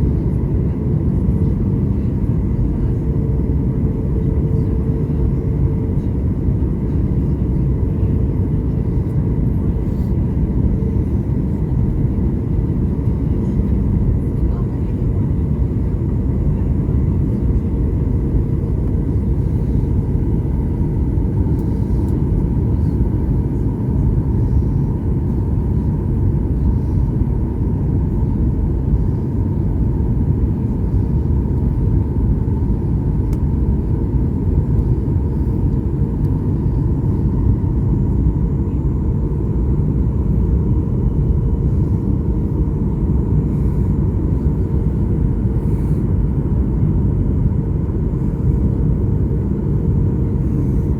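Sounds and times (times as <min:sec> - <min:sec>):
faint steady hum: 0:00.0 - 0:50.9
jet airliner cabin rumble: 0:00.0 - 0:50.9.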